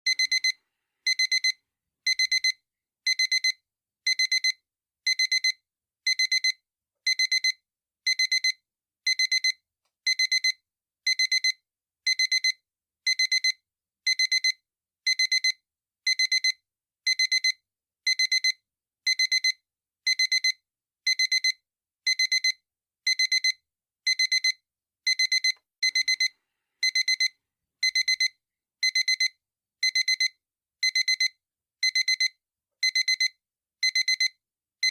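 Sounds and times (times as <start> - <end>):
digital alarm clock beeping: 0.1 - 34.9.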